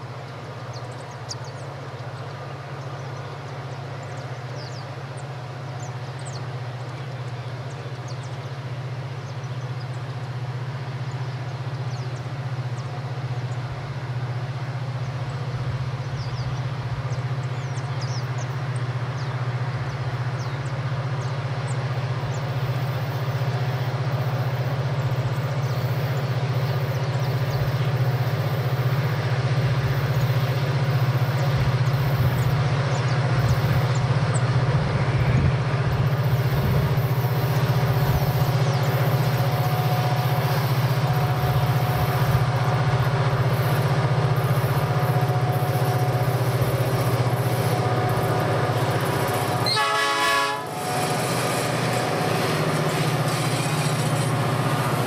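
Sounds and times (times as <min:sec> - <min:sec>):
diesel locomotives drone: 0:00.0 - 0:55.0.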